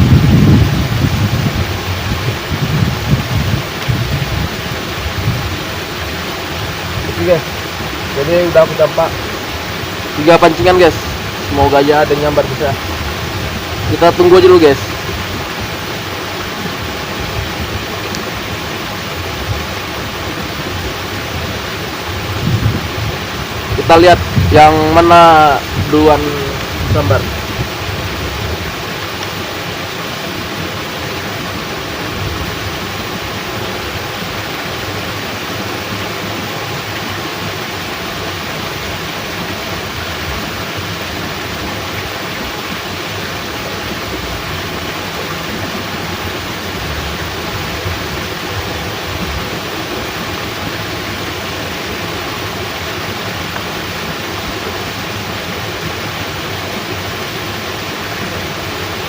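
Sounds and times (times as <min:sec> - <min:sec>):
heavy rain: 0:00.0 - 0:59.0
water flowing through sluice gate: 0:00.0 - 0:59.0.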